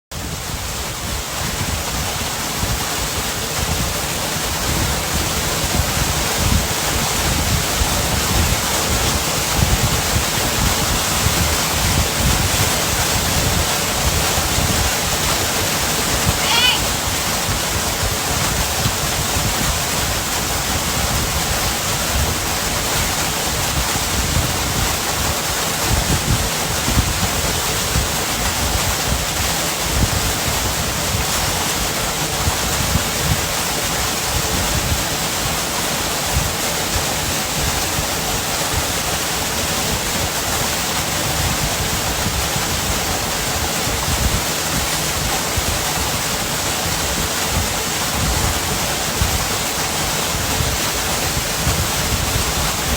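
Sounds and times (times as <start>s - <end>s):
waterfall rushing: 0.1s - 52.9s.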